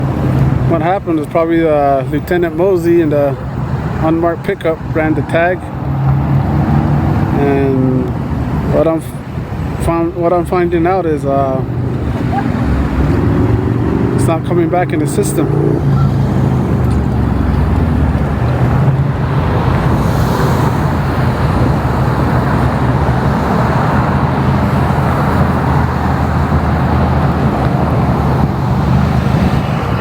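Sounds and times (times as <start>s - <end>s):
road traffic noise: 0.0s - 30.0s
vehicle engine humming: 0.0s - 30.0s.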